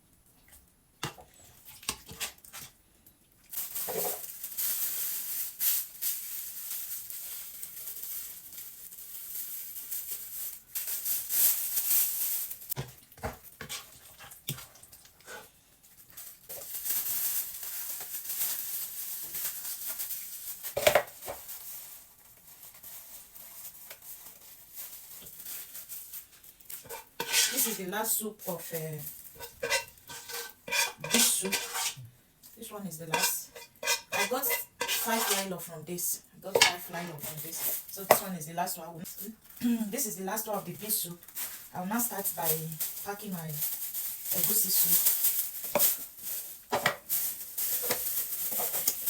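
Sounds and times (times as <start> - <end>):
plastic bags rustling: 3.5 - 49.0.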